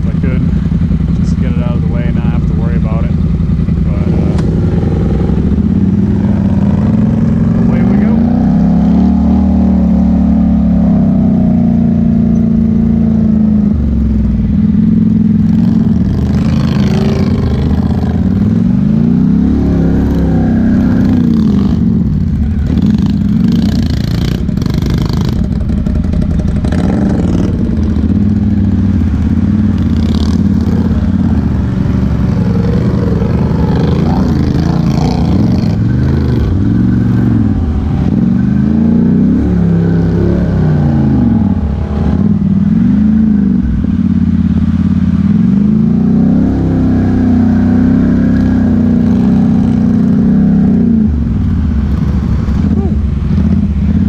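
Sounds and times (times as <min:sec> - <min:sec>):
atv engine running under load: 0:00.0 - 0:54.0.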